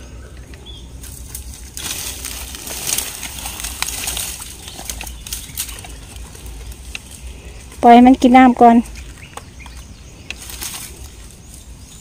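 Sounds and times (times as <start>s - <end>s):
straw crackling underfoot: 0.0s - 12.0s
twigs snapping: 0.4s - 7.8s, 8.8s - 11.6s.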